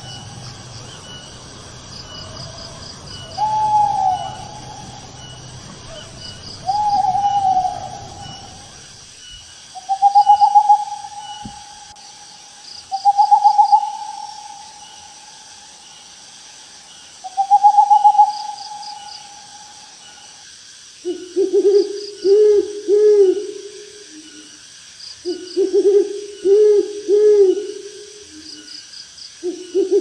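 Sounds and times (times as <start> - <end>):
owl hooting: 0.0 - 12.2, 12.8 - 15.7, 17.2 - 20.4, 21.0 - 24.5, 25.2 - 28.7
insects chirping: 0.0 - 30.0.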